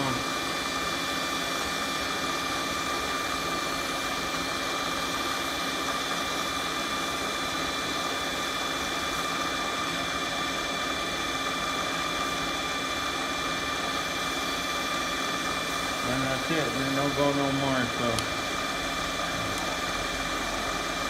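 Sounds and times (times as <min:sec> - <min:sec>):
high motor whine: 0:00.0 - 0:21.0
milling machine running: 0:00.0 - 0:21.0.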